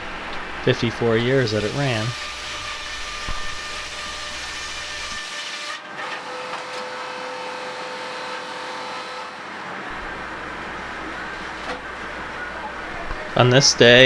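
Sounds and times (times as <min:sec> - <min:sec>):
saw whine: 0:00.0 - 0:14.0
sawmill mechanical noise: 0:00.0 - 0:14.0.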